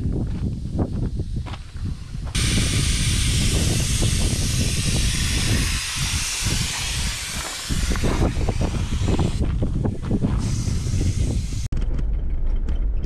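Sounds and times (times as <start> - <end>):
air hissing out of a tyre: 0.0 - 11.7.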